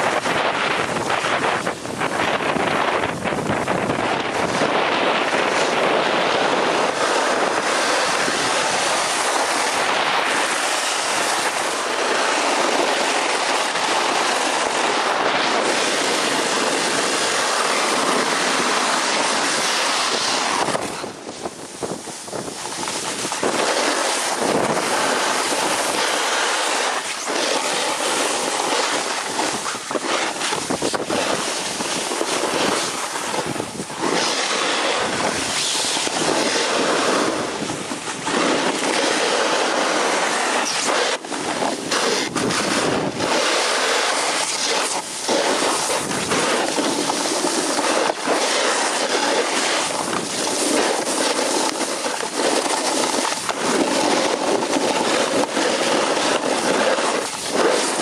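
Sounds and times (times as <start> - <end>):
skis scraping over snow: 0.0 - 58.0
wind rushing over microphone: 0.0 - 58.0.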